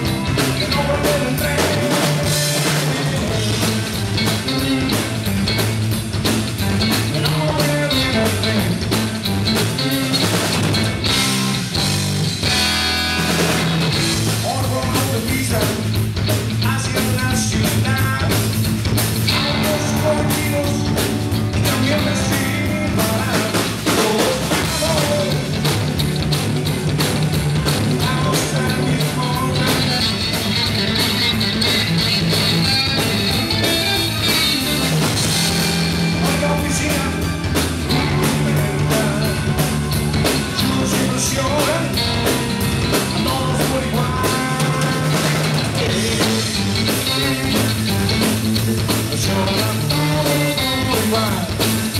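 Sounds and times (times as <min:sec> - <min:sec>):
bass guitar: 0:00.0 - 0:51.9
drum kit: 0:00.0 - 0:51.9
electric guitar: 0:00.0 - 0:51.9
keyboards: 0:00.0 - 0:51.9.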